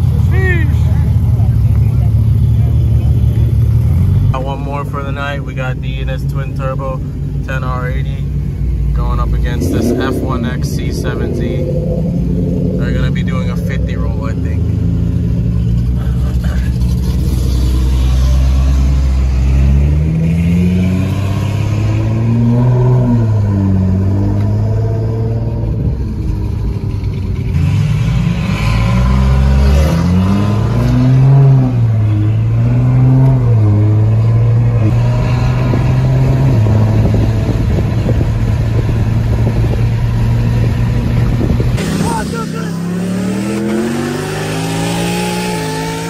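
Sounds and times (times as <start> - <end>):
cars accelerating hard: 8.9 - 46.0.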